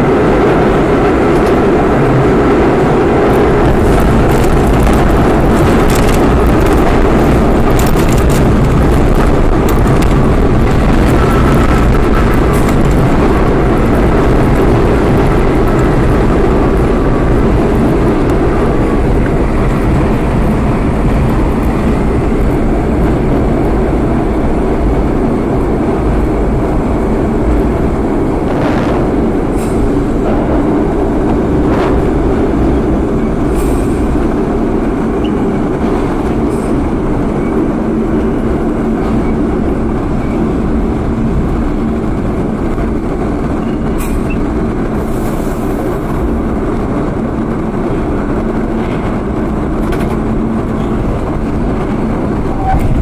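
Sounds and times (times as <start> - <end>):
subway train rumbling on track: 0.0 - 53.0.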